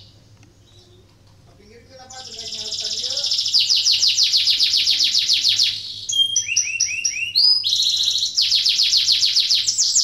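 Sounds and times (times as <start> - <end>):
canary singing trills: 0.0 - 10.0.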